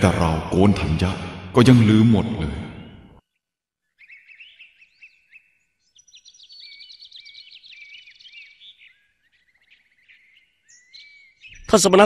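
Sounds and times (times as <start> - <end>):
small birds chirping and trilling: 2.4 - 12.0.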